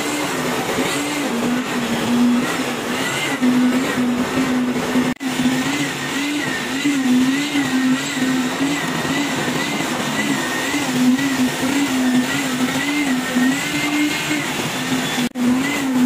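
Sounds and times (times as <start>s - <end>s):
concrete mixer truck drone: 0.0s - 16.0s
wavering mechanical whine: 0.0s - 16.0s.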